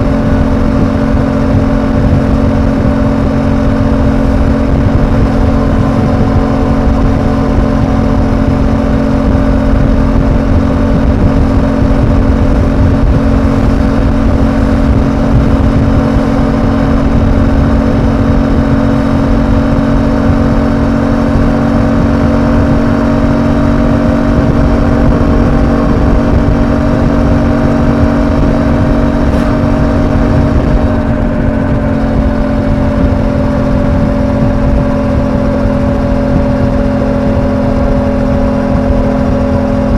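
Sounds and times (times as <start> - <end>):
motorcycle engine cruising: 0.0 - 39.9
wind and road rumble: 0.0 - 39.9.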